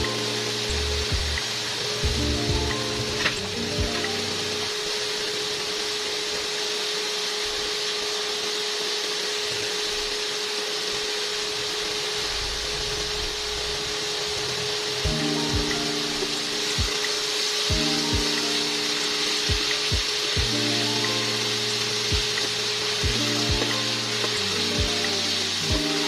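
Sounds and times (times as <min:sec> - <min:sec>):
chicken sizzling in oil: 0:00.0 - 0:26.0
steady hum: 0:00.0 - 0:26.0.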